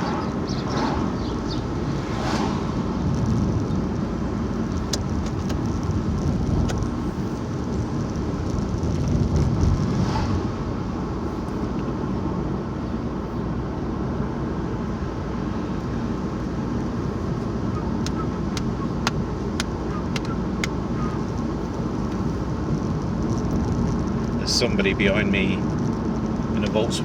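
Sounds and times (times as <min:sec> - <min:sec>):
tyre and engine rumble: 0:00.0 - 0:27.0.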